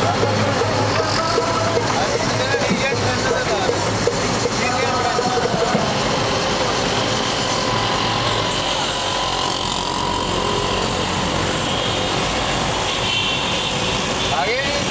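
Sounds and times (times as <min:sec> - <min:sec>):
small engines droning in traffic: 0:00.0 - 0:14.9.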